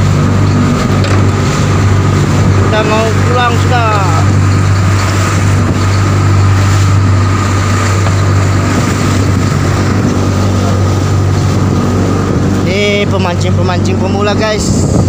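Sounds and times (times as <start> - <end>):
boat engine droning: 0.0 - 15.0
wake rushing along hull: 0.0 - 15.0.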